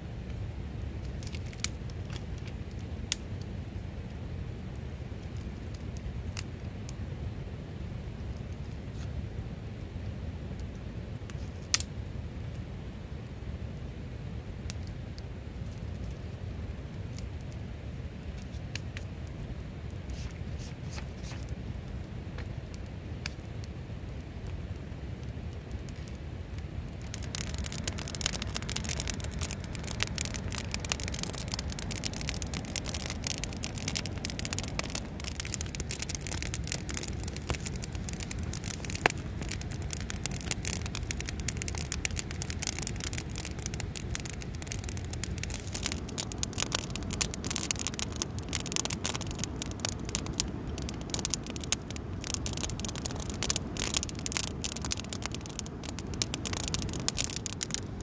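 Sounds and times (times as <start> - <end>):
campfire crackling and popping: 0.0 - 7.1, 7.7 - 58.0.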